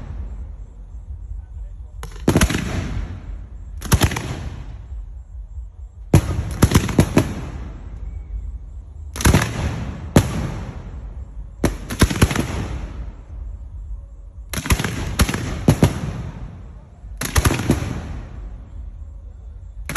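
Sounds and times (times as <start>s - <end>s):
fireworks bursting: 0.0s - 13.6s, 14.4s - 19.1s.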